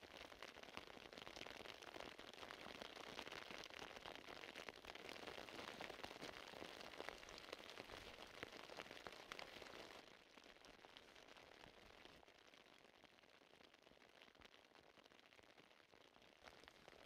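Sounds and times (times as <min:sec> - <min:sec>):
rain falling on a lake: 0:00.0 - 0:17.0.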